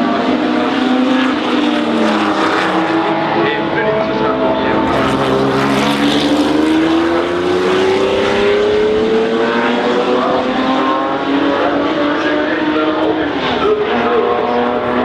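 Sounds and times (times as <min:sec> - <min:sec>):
racing car engine accelerating: 0:00.0 - 0:15.0
other engines running: 0:00.2 - 0:15.0.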